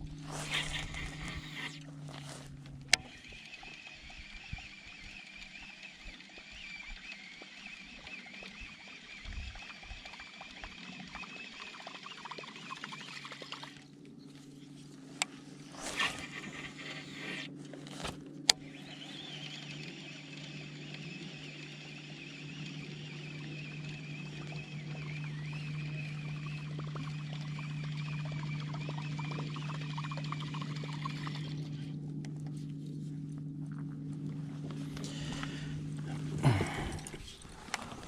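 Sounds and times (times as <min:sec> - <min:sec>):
fishing reel whirring: 0:00.0 - 0:13.9, 0:15.6 - 0:38.0
low motor hum: 0:00.0 - 0:38.0.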